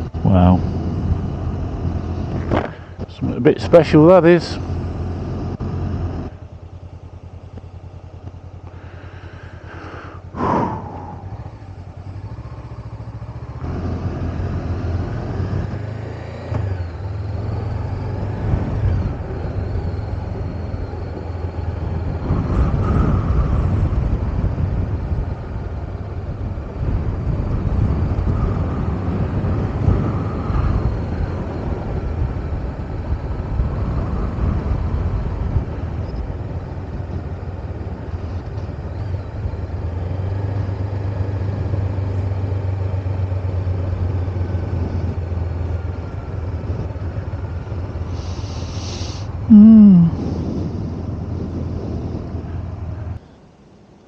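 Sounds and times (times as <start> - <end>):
motorcycle engine hum: 0.0 - 54.0
rushing wind: 0.0 - 54.0.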